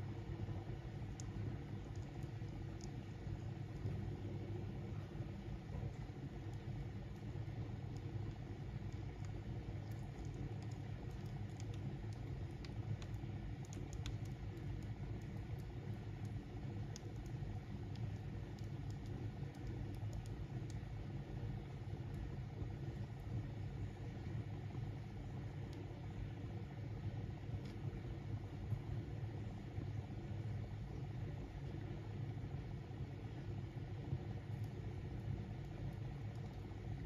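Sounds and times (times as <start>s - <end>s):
fire crackling: 0.0s - 37.0s
fire low rumble: 0.0s - 37.0s.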